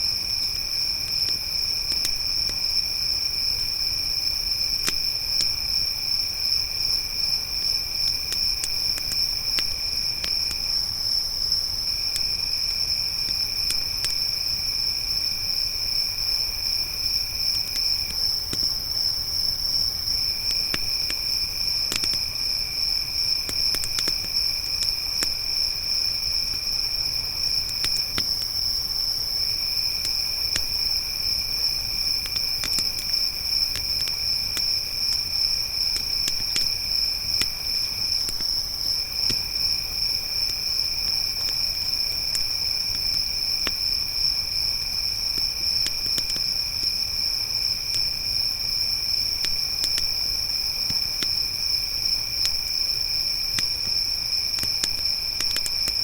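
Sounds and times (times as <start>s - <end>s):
crickets chirping: 0.0s - 56.0s
campfire crackling and popping: 0.2s - 7.0s, 7.6s - 15.2s, 15.9s - 48.2s, 49.2s - 56.0s.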